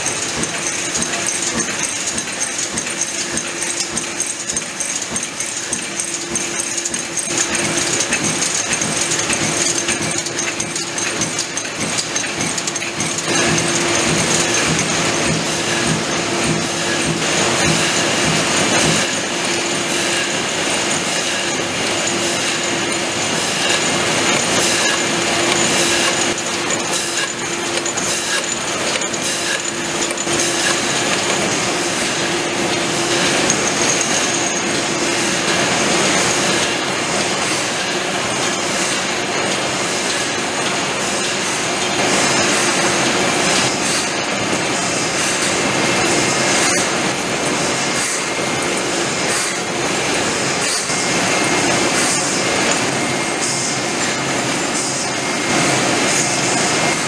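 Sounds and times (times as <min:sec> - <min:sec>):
production machinery clatter: 0:00.0 - 0:57.0.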